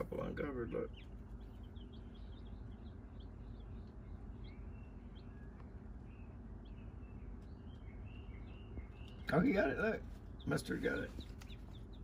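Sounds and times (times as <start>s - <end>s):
chicks and ducklings peeping: 0.0s - 12.0s
steady low hum: 0.0s - 12.0s.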